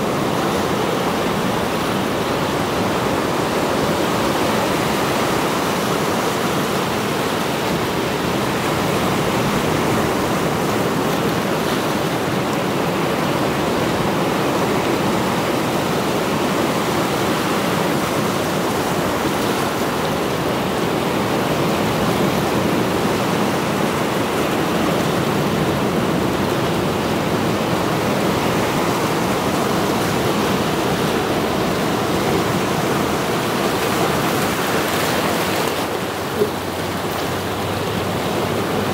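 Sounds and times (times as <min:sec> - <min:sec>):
surf washing over rocks: 0:00.0 - 0:38.9.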